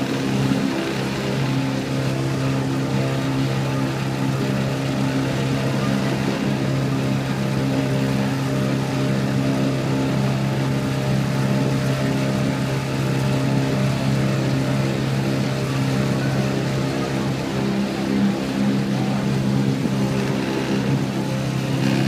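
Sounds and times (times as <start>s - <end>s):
outboard motor humming: 0.0s - 22.0s.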